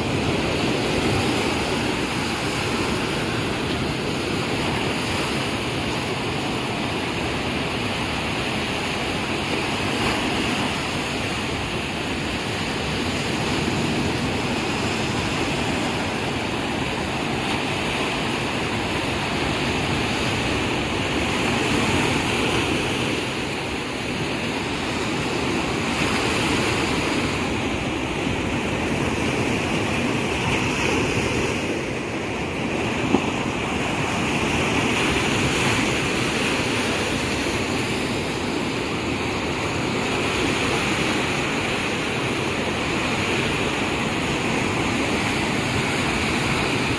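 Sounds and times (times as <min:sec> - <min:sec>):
surf washing up a beach: 0:00.0 - 0:46.9.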